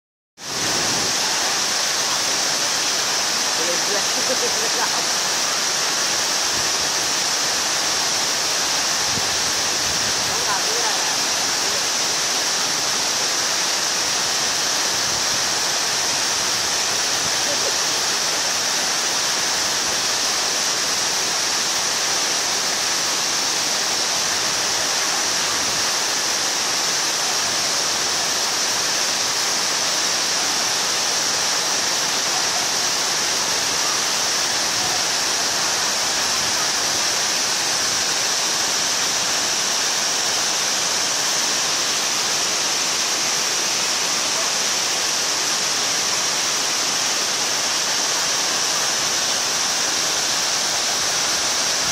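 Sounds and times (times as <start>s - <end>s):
waterfall rushing: 0.4s - 51.9s.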